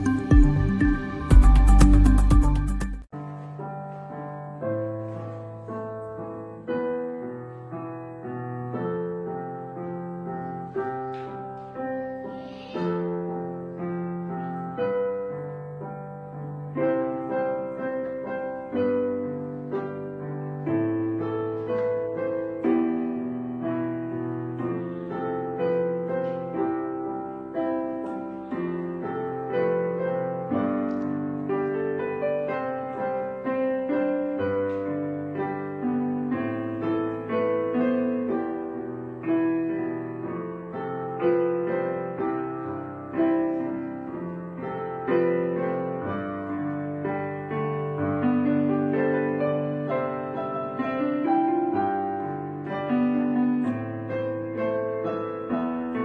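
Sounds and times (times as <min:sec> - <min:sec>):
calm piano music: 0:00.0 - 0:56.0.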